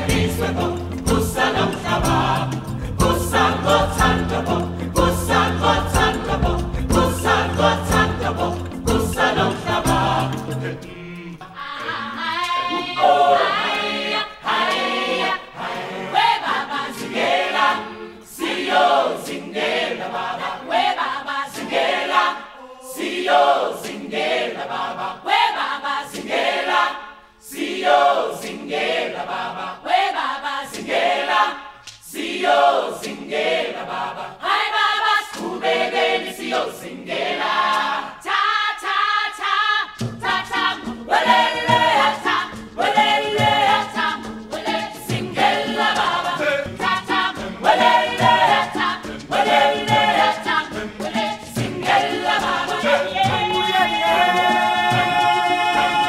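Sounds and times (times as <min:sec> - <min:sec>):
choir singing rhythmic phrases: 0:00.0 - 0:56.0.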